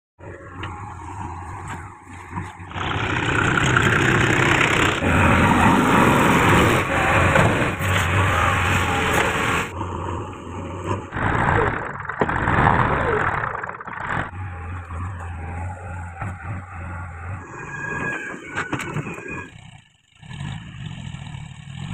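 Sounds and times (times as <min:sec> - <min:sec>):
backhoe diesel engine under load: 0:00.2 - 0:21.9.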